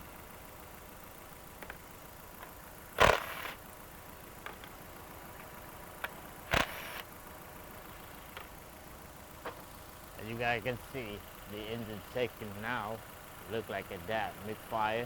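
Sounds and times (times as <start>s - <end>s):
car engine idling and misfiring: 0.0s - 15.0s.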